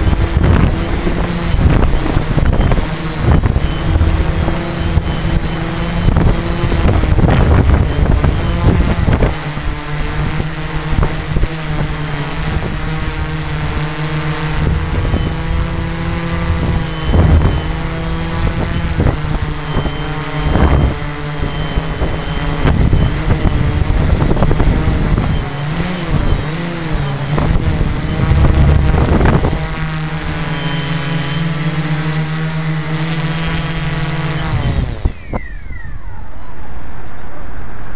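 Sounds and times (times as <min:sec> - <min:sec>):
drone propellers buzzing: 0:00.0 - 0:37.9
motors spinning down whine: 0:00.0 - 0:37.9.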